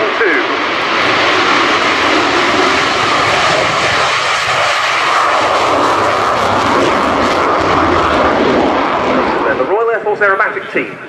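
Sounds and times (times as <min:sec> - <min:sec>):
jets flying past: 0:00.0 - 0:11.0.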